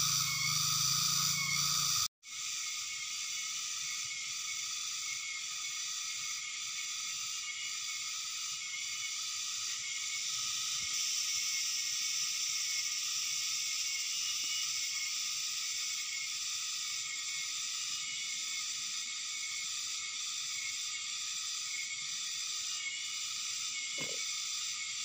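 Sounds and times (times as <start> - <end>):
insects buzzing and trilling: 0.0 - 25.0.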